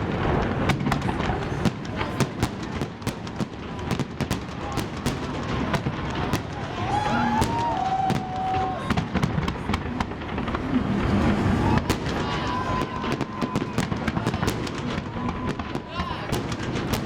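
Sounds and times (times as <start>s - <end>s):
fireworks bangs and crackles: 0.0s - 17.0s
fireworks whistling: 0.0s - 17.0s.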